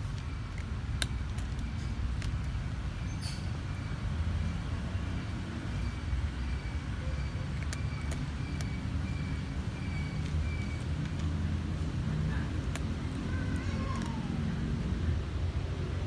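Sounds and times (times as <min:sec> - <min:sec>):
cat crunching dry kibble: 0:00.0 - 0:05.2, 0:06.9 - 0:16.0.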